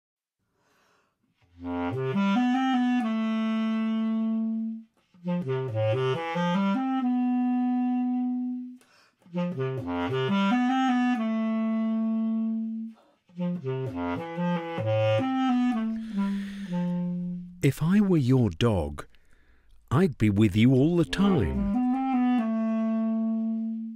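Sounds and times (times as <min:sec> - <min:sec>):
basset horn playing: 0:01.5 - 0:17.6, 0:20.7 - 0:23.9.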